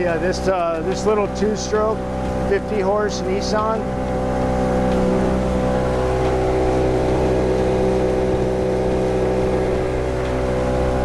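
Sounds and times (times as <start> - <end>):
outboard motor droning: 0.0 - 11.0
rush of boat wake: 0.0 - 11.0.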